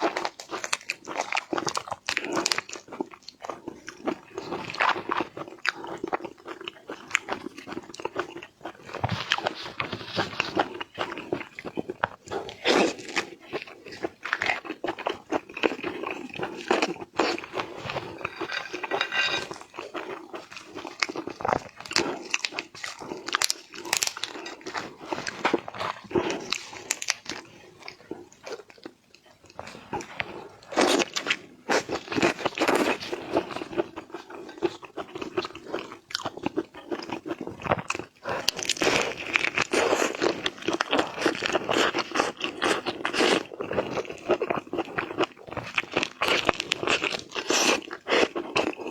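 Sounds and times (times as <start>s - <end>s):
crunching bites and chewing: 0.0s - 48.9s.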